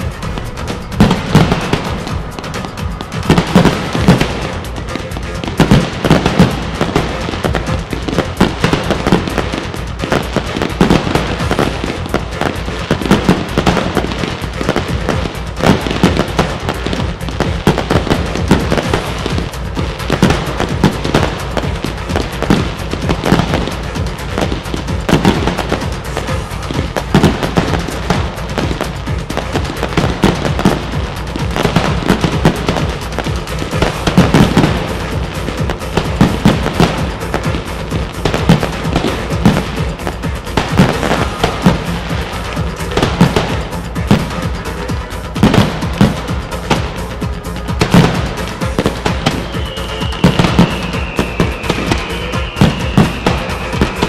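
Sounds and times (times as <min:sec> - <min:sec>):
fireworks launching and bursting: 0:00.0 - 0:54.0
music playing: 0:00.0 - 0:54.0.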